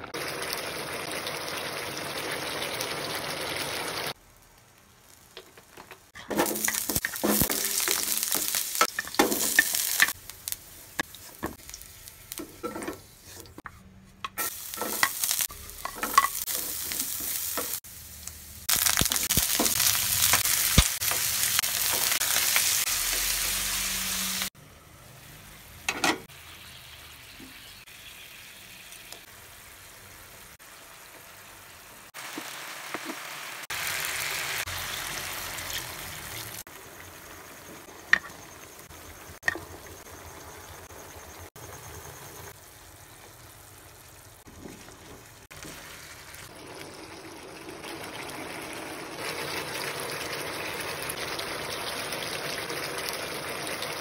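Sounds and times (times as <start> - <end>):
chicken sizzling in hot oil: 0.0 - 13.6, 14.4 - 54.0
quiet frying and simmering: 0.0 - 54.0.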